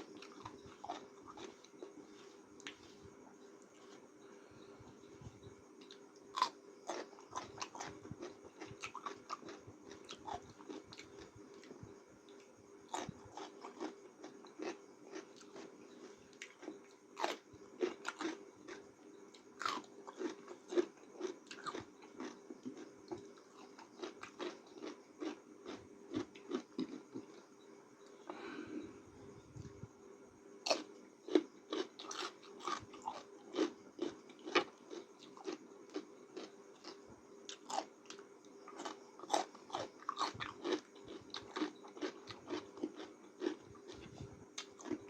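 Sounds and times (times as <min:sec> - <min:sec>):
person chewing noodles: 0:00.0 - 0:02.9, 0:05.8 - 0:27.4, 0:30.7 - 0:45.0
room fan humming: 0:00.0 - 0:45.0.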